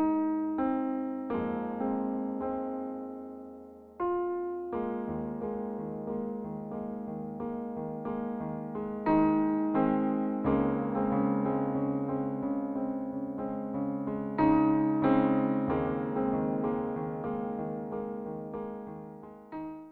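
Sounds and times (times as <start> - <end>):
slow gentle piano music: 0.0 - 19.9.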